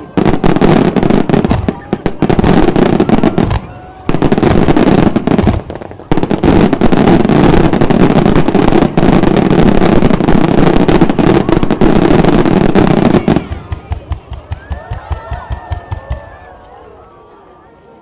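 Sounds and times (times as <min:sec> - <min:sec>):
fireworks bangs and crackles: 0:00.0 - 0:16.8.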